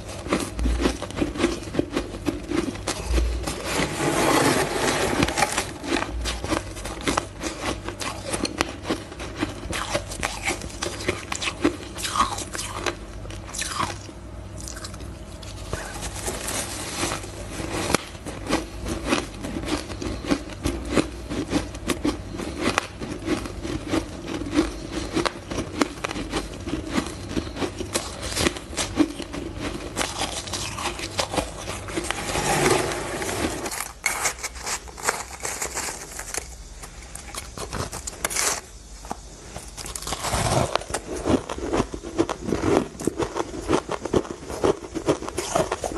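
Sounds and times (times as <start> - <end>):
crunching and chewing shaved ice: 0.0 - 45.9.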